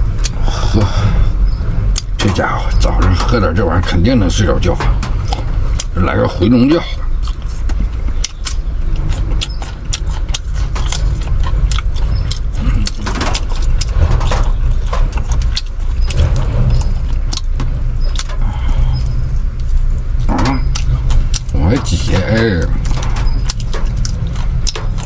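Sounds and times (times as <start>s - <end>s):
car cabin rumble: 0.0s - 25.0s.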